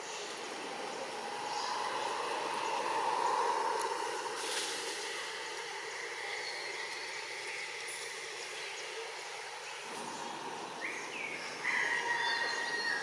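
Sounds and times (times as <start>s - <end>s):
outdoor ambient noise: 0.0s - 13.0s.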